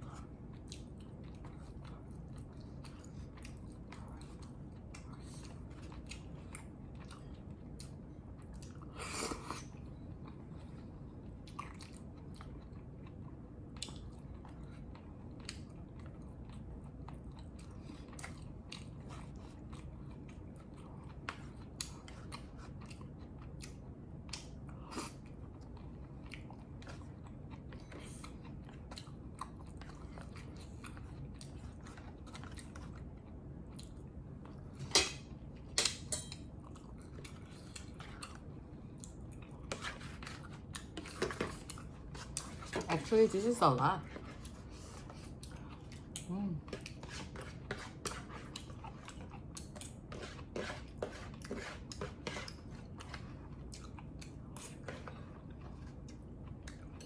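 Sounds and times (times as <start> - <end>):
person chewing: 0.0 - 42.9, 44.1 - 57.0.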